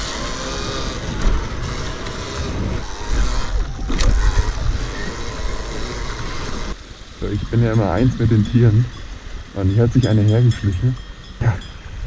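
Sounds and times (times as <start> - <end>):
motorcycle tyres on gravel and grass: 0.0 - 10.5
wind rumbling on microphone: 0.0 - 12.0.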